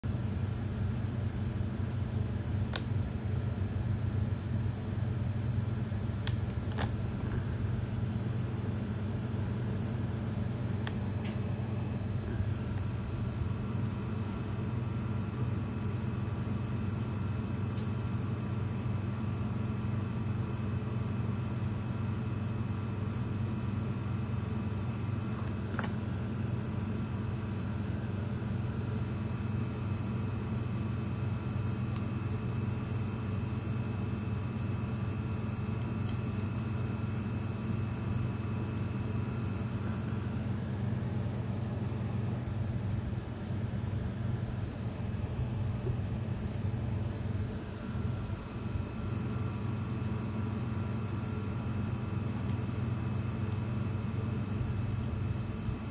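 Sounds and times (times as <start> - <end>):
low machine hum: 0.0 - 55.9.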